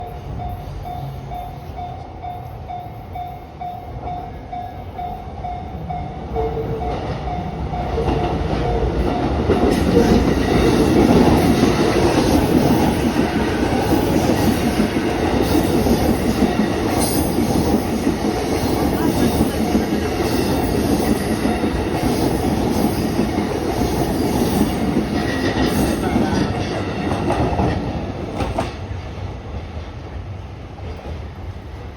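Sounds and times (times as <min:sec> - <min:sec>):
electric train approaching: 0:00.0 - 0:31.9.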